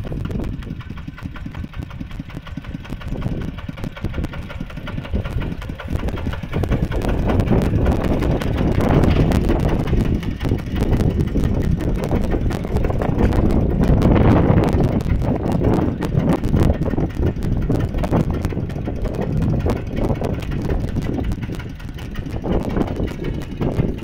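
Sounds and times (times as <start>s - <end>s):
diesel engine chugging: 0.0s - 24.0s.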